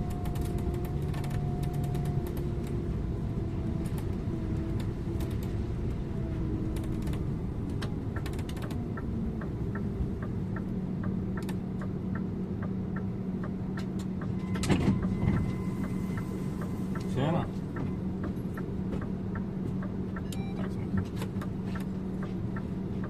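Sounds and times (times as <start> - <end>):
bus diesel engine: 0.0 - 23.0
road noise: 0.0 - 23.0
turn signal ticking: 3.6 - 23.0.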